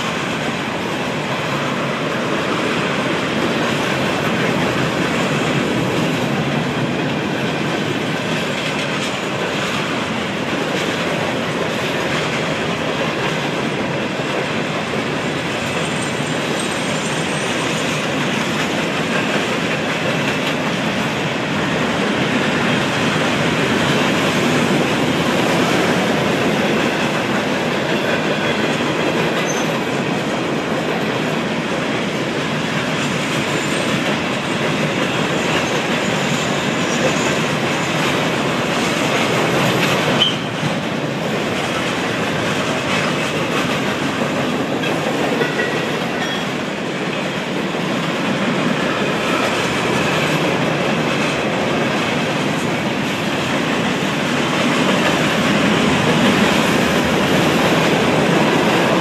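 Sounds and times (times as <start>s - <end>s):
freight train cars rolling past: 0.0s - 59.0s.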